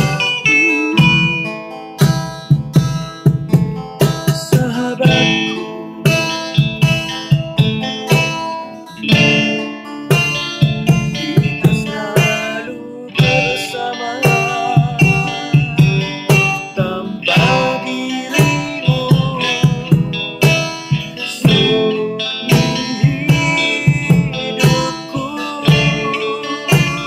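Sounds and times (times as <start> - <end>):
acoustic guitars playing: 0.0 - 27.0
percussion beat: 0.0 - 27.0.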